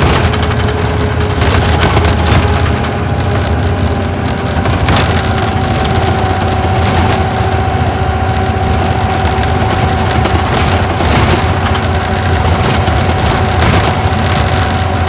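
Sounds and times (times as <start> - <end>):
diesel engine running: 0.0 - 15.0
held whine: 0.0 - 15.0
road noise: 0.0 - 15.0.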